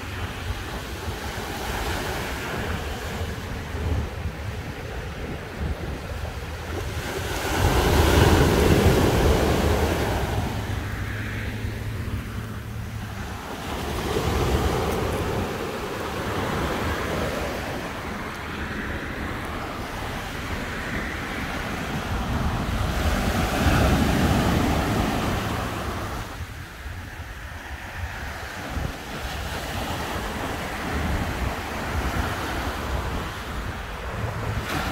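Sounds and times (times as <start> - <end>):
small waves breaking on beach: 0.0 - 34.9
wind rumbling on microphone: 0.0 - 34.9.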